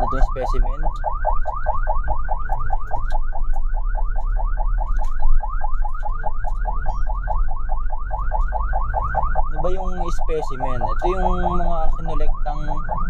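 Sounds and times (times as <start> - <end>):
ambulance siren yelping: 0.0 - 13.0.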